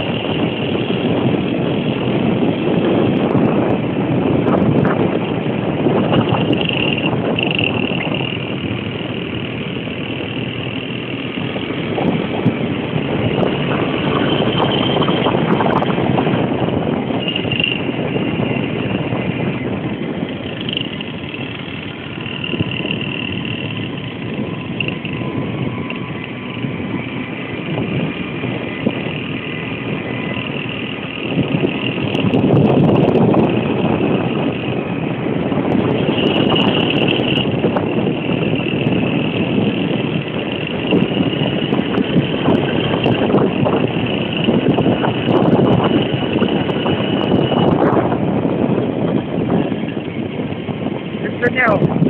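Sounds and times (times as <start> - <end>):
small motorbike engines whining: 0.0 - 52.0.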